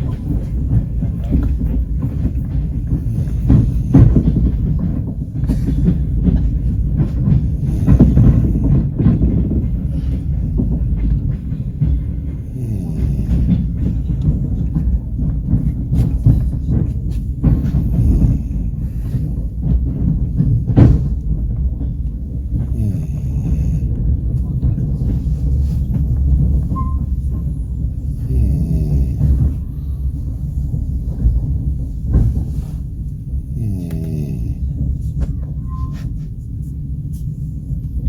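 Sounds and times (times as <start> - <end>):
train running at speed: 0.0 - 38.0
wheels clacking over rail joints: 0.0 - 38.0.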